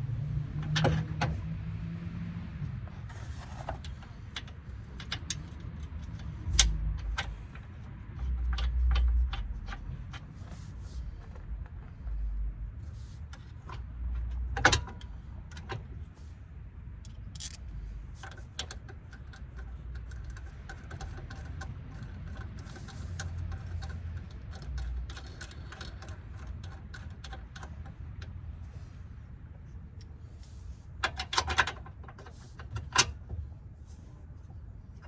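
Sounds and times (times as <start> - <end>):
low steady rumble: 0.0 - 35.0.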